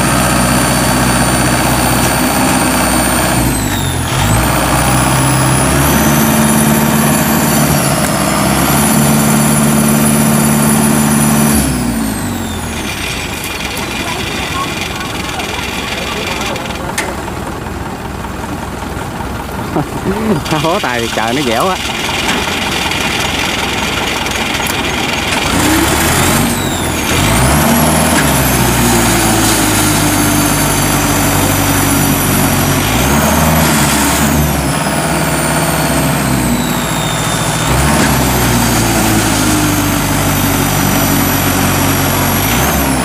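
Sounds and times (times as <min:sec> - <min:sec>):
diesel engine working hard: 0:00.0 - 0:43.0.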